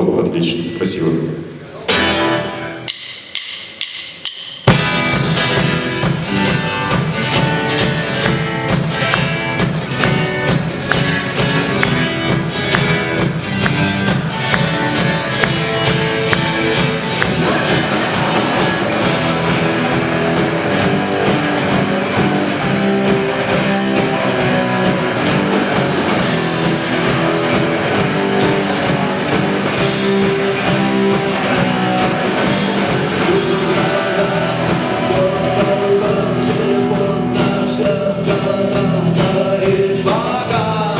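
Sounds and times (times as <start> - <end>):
rock band playing live: 1.9 - 40.9.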